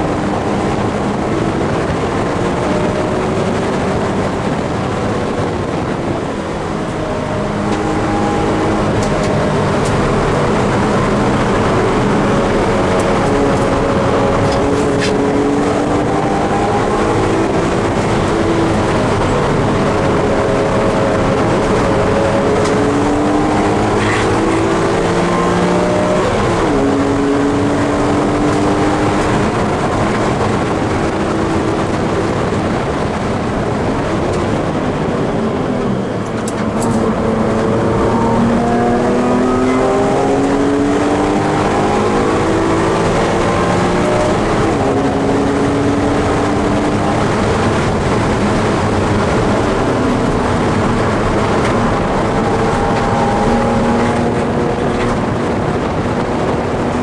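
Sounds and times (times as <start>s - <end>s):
car engine revving hard: 0.0s - 57.0s
gear upshift: 0.0s - 57.0s
tyre and wind noise: 0.0s - 57.0s.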